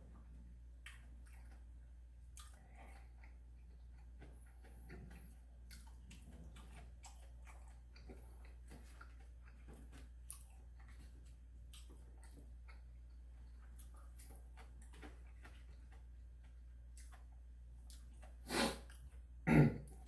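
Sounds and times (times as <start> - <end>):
soft chewing: 0.0 - 20.0.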